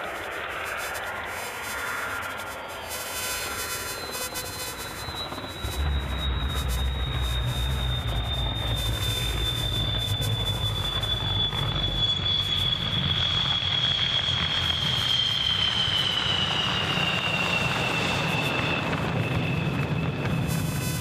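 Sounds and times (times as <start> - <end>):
jet engine whine: 0.0 - 21.0.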